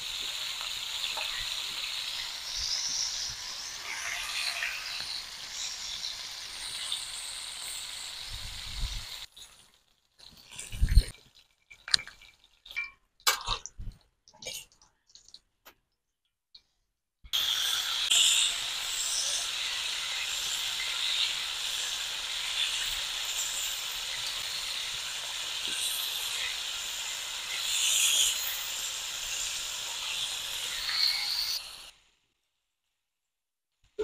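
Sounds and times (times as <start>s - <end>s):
chicken deep-frying in oil: 0.0s - 16.4s, 17.3s - 32.2s.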